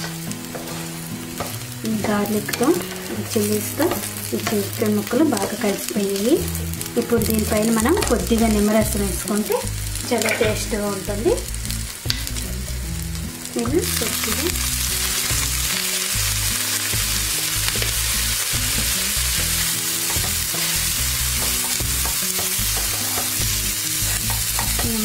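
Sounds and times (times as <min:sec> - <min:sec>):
chicken sizzling in a frying pan: 0:00.0 - 0:25.0.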